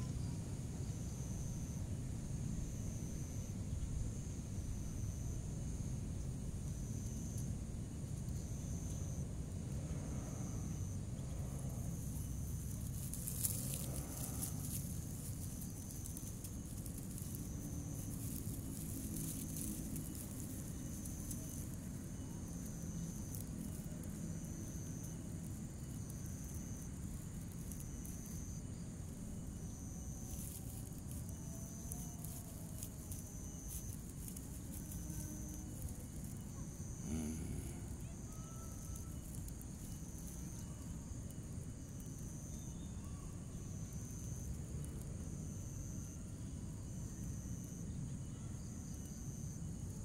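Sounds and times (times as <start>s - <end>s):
insect buzzing: 8.3s - 50.0s.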